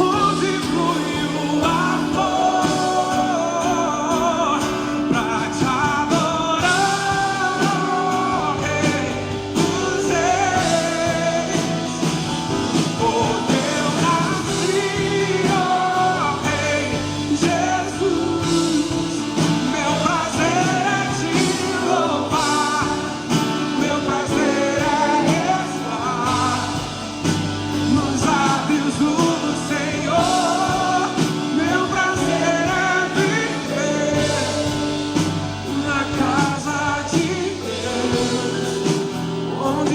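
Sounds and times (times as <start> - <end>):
band with bass and drums: 0.0 - 39.9
person singing lead vocal: 0.0 - 39.9.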